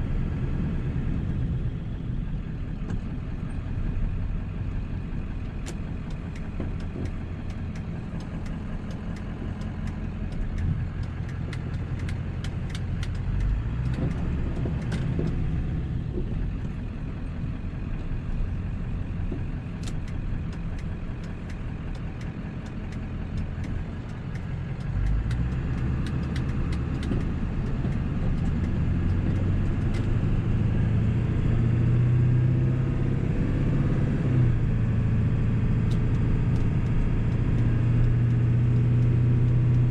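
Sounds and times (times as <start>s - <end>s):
diesel truck engine running: 0.0s - 39.9s
road noise: 0.0s - 39.9s.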